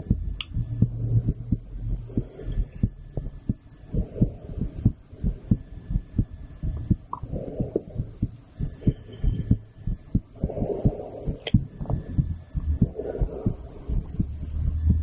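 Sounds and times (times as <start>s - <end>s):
heartbeat through stethoscope: 0.0s - 15.0s.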